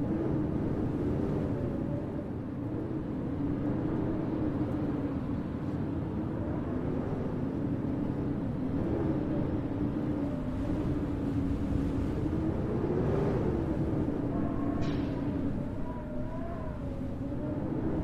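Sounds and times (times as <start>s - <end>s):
blizzard wind howling: 0.0s - 18.0s.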